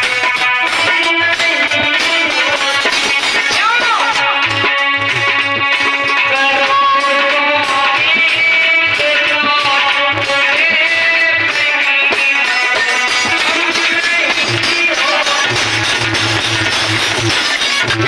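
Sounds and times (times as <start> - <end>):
steady beat: 0.0 - 18.0.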